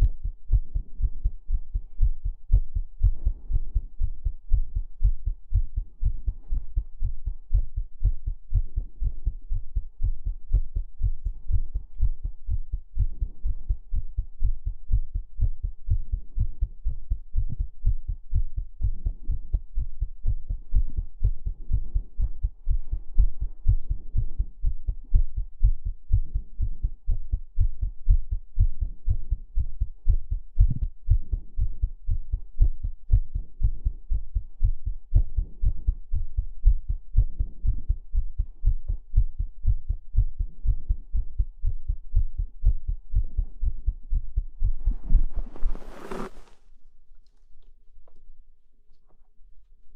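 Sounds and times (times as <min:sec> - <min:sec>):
heartbeat low thumps: 0:00.0 - 0:46.6.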